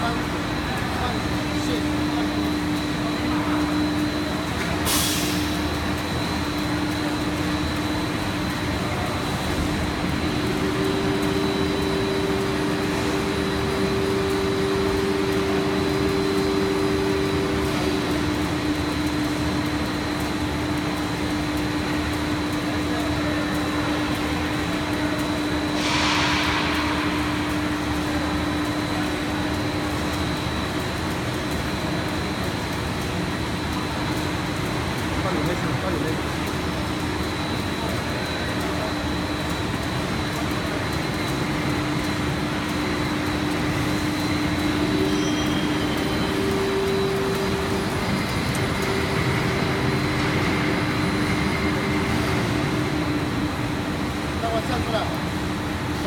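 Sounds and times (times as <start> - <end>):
higher machine hum: 0.0 - 56.0
machine drone with low hum: 0.0 - 56.0.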